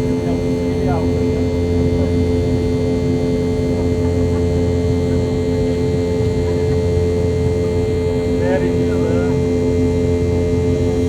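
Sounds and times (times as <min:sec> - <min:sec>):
jet engines droning in cabin: 0:00.0 - 0:11.0.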